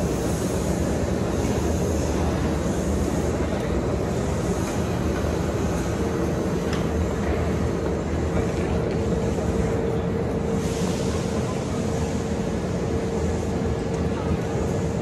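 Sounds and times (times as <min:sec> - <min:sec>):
electric train rumble: 0:00.0 - 0:15.0
train hum: 0:00.0 - 0:15.0.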